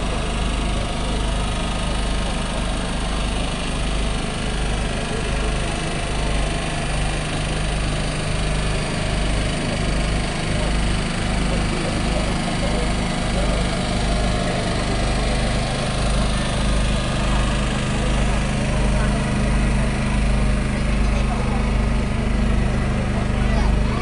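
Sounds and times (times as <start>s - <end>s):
diesel engine rumbling under load: 0.0s - 24.0s.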